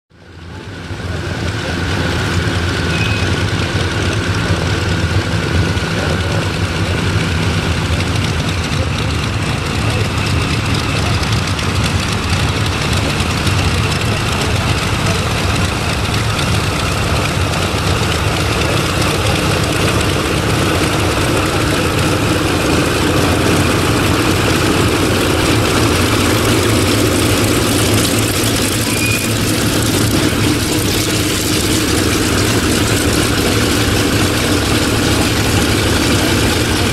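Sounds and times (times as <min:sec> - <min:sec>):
propeller plane engines droning: 0:00.1 - 0:36.9.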